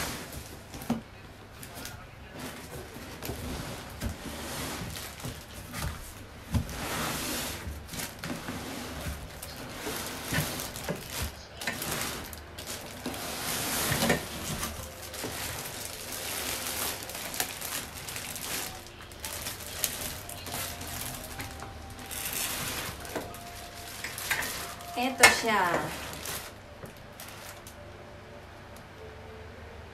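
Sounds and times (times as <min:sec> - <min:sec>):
cardboard and plastic rustling: 0:00.0 - 0:27.9.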